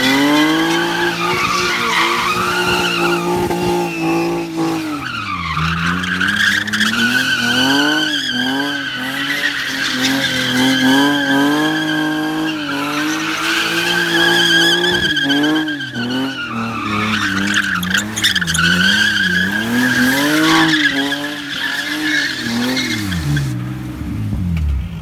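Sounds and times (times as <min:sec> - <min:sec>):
car engine revving: 0:00.0 - 0:25.0
tyres squealing: 0:00.1 - 0:23.4.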